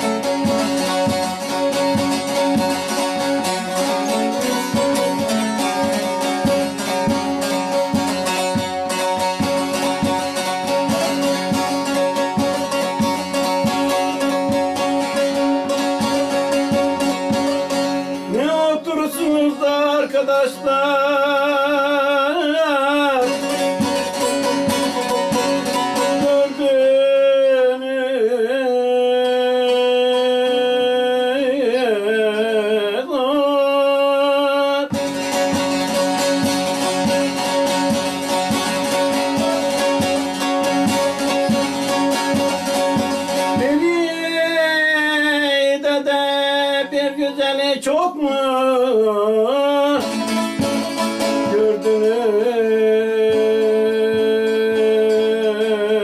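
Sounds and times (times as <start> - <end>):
man singing folk song: 0.0 - 56.0
plucked long-necked lute: 0.0 - 56.0.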